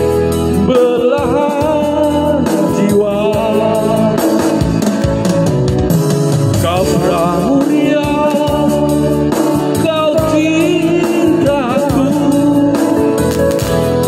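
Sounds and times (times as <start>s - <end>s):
backing music chords: 0.0s - 14.0s
man singing with vibrato: 0.5s - 5.0s, 6.5s - 13.3s.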